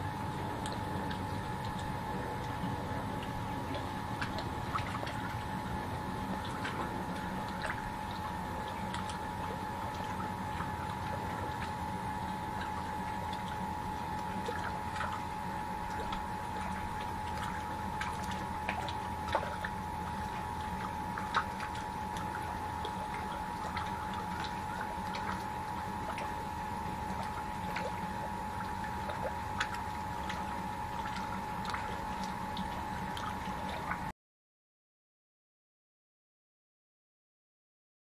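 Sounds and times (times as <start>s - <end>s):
water sounds: 0.0s - 34.1s.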